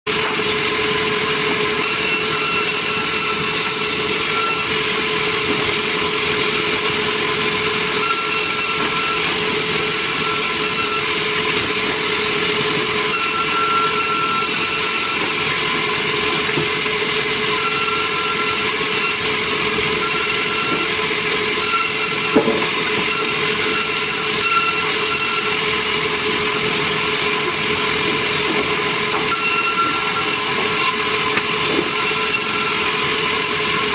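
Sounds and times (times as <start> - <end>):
sawmill saw cutting timber: 0.1 - 33.9.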